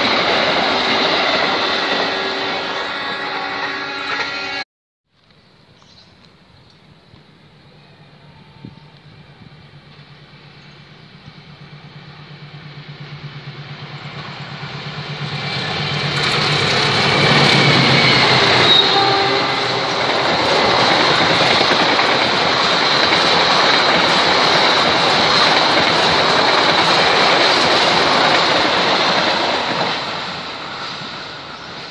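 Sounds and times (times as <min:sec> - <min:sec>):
train wheels on rails: 0:00.0 - 0:04.6, 0:05.2 - 0:31.9
locomotive hum: 0:06.4 - 0:31.9.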